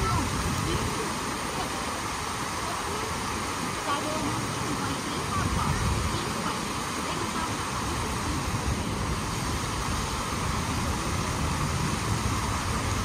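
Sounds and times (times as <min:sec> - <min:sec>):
fountain water jets rushing: 0:00.0 - 0:13.0
wind rumble on microphone: 0:00.0 - 0:13.0.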